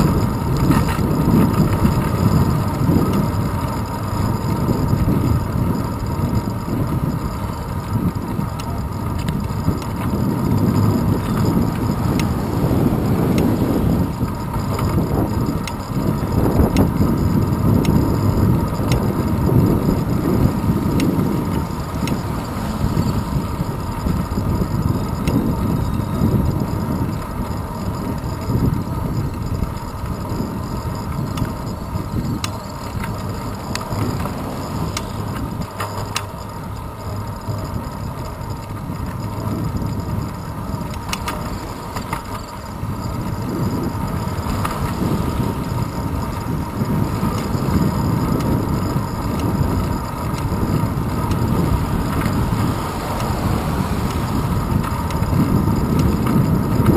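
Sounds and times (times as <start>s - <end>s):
road vibration rumble: 0.0s - 56.9s
wind buffeting microphone: 0.0s - 56.9s.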